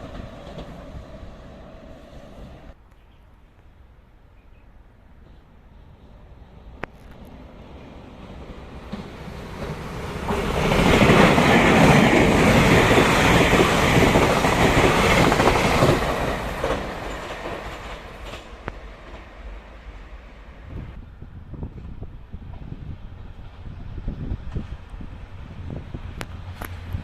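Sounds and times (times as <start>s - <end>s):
train passing on rails: 0.0s - 2.8s, 4.3s - 27.0s.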